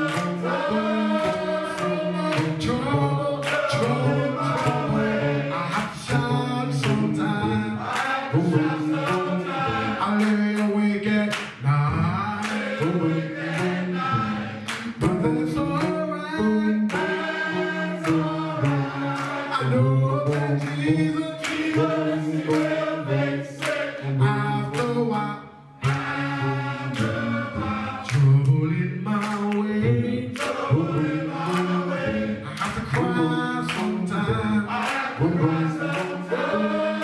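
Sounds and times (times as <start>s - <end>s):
men's gospel choir singing: 0.0s - 37.0s.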